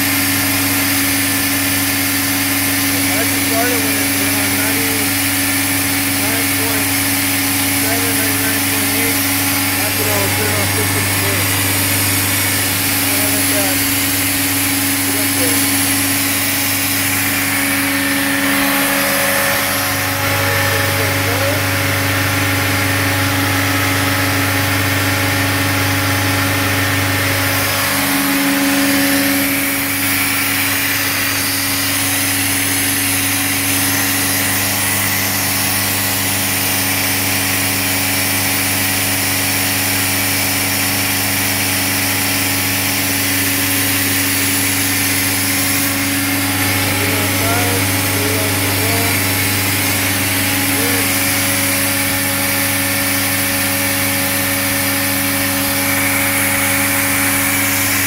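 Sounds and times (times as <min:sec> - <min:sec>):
engine and compressor running: 0:00.0 - 0:58.0.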